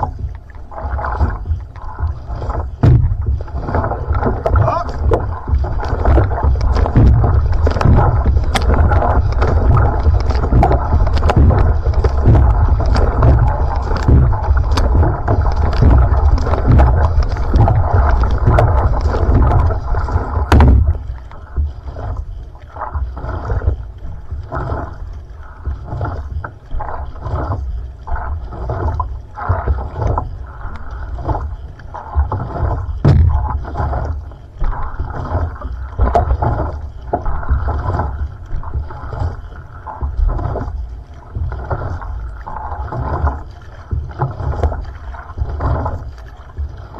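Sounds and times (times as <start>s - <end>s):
paddle stroke splashes: 0.0s - 46.9s
water splashing along canoe hull: 0.0s - 46.9s.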